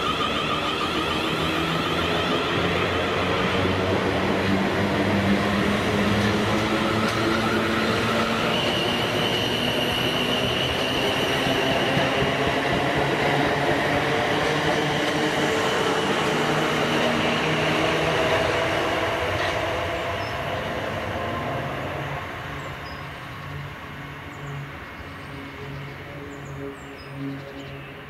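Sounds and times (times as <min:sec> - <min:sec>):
train wheels rumbling on rails: 0:00.0 - 0:22.8
train high whine: 0:00.0 - 0:28.0.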